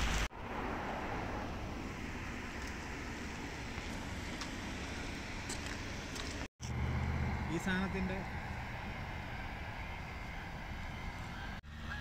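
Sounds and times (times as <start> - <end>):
distant road traffic: 0.0 - 12.0.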